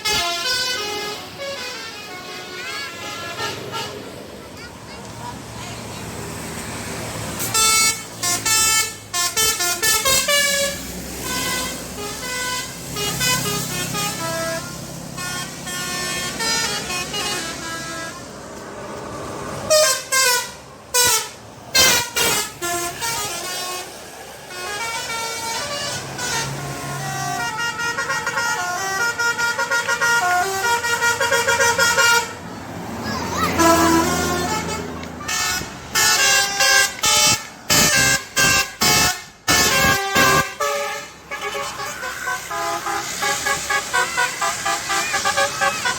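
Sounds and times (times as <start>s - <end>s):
multi-tone air horns playing melody: 0.0s - 4.0s, 7.4s - 18.4s, 19.7s - 32.4s, 33.5s - 45.9s.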